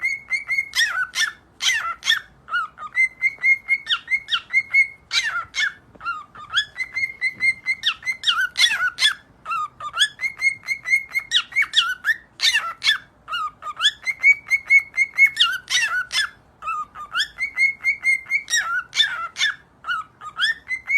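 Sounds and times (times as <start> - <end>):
cockatiel whistling a tune: 0.0 - 20.9.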